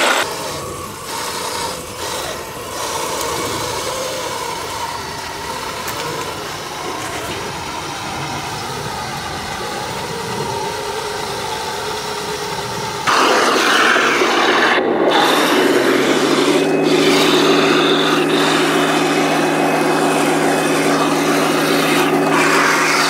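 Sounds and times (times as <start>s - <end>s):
electric motors whining: 0.0s - 23.0s
tracks grinding over dirt: 0.0s - 23.0s.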